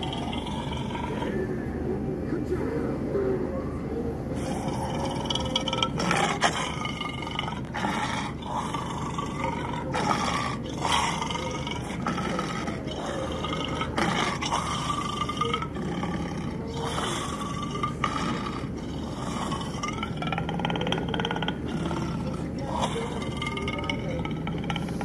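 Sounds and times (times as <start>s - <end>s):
cartoon seal growls and snarls: 0.0s - 1.5s, 4.4s - 25.0s.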